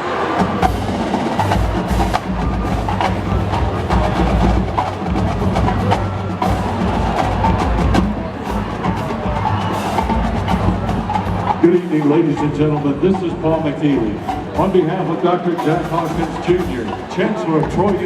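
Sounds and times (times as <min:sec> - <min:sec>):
drum hits: 0:00.0 - 0:18.0
stadium crowd din: 0:00.0 - 0:18.0.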